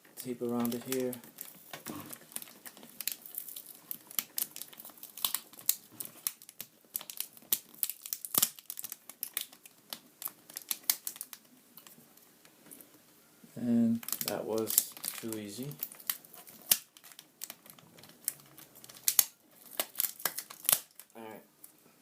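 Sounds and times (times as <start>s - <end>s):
adhesive tape being peeled: 0.6s - 11.9s, 14.0s - 21.1s.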